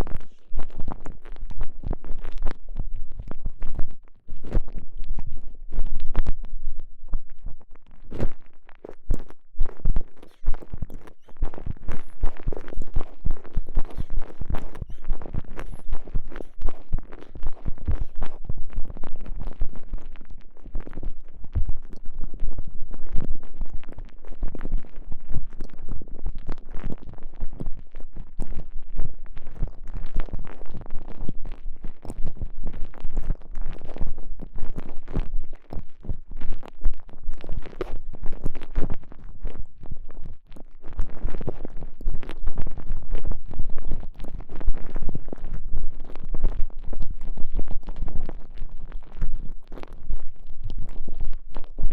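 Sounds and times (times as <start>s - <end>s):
rubbing and clicking on microphone: 0.0s - 51.9s.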